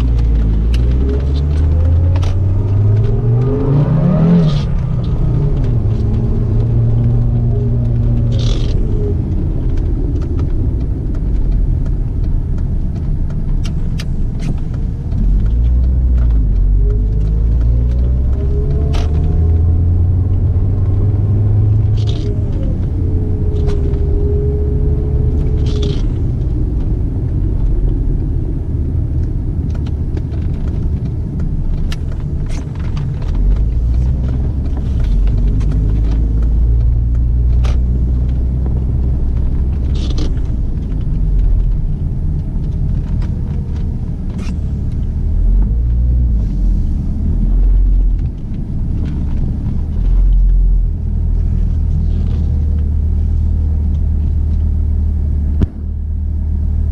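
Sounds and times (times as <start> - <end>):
car engine rumbling: 0.0 - 56.9.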